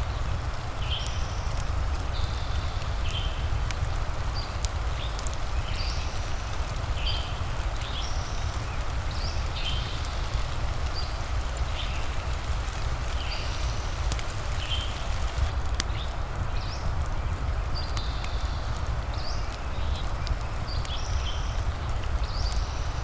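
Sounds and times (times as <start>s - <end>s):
fire crackling: 0.0s - 23.0s
rain: 0.0s - 23.0s.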